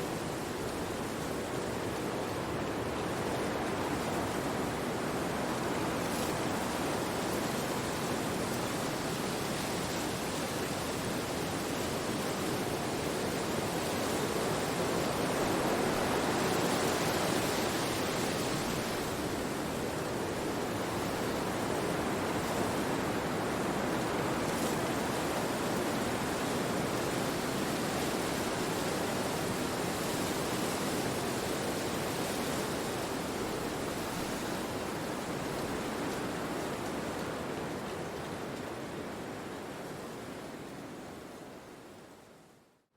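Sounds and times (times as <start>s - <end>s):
wind rushing through trees: 0.0s - 42.7s.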